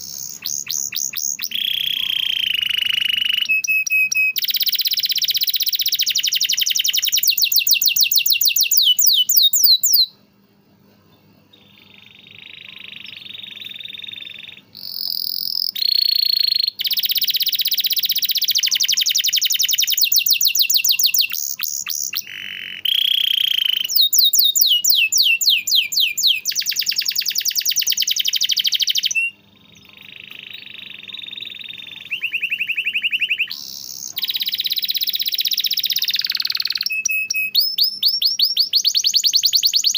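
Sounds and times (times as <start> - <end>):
canary singing trills: 0.0 - 10.3, 11.2 - 39.9.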